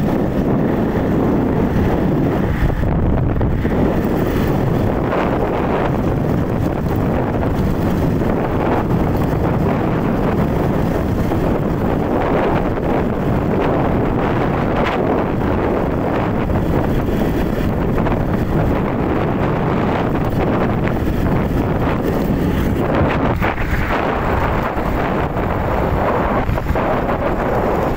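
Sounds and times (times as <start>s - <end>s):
road and vehicle noise: 0.0s - 27.9s
wind buffeting microphone: 0.0s - 27.9s.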